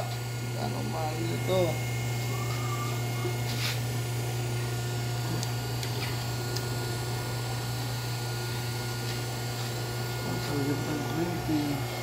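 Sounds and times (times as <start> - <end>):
machine motor and pump humming: 0.0 - 12.0.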